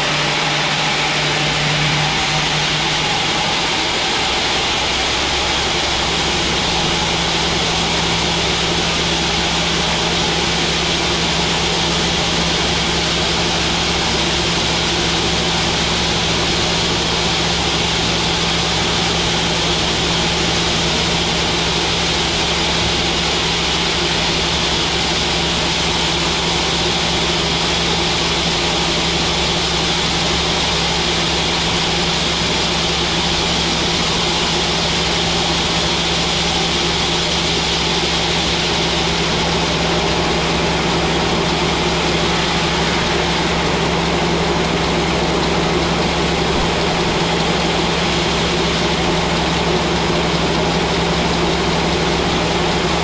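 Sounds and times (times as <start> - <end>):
band saw machine drone: 0.0 - 53.0.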